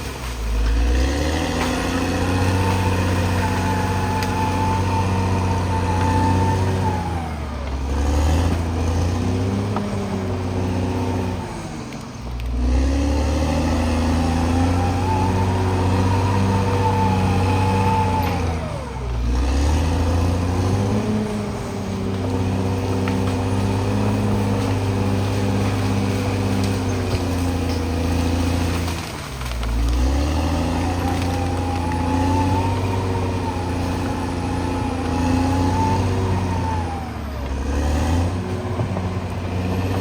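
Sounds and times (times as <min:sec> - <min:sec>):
bulldozer diesel engine under load: 0:00.0 - 0:40.0.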